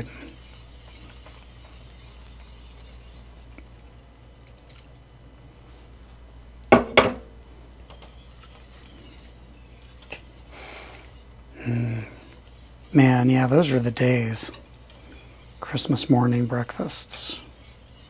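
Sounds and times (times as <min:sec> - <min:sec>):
whisk stirring gravy in skillet: 0:00.0 - 0:05.1, 0:08.0 - 0:18.0.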